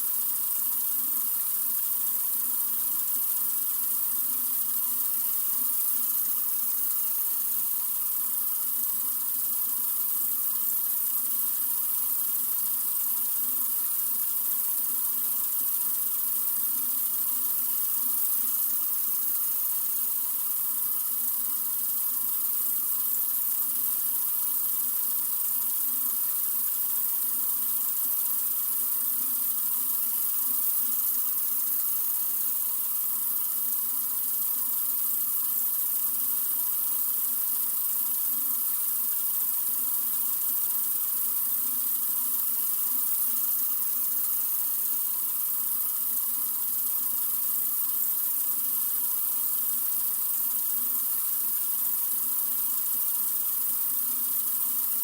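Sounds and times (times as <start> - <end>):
sink faucet running: 0.1 - 55.0.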